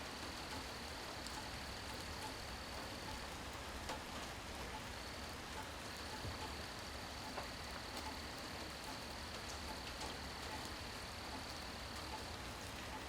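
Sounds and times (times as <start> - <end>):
rain falling: 0.0 - 13.0
sharp drip ticks: 0.3 - 13.0.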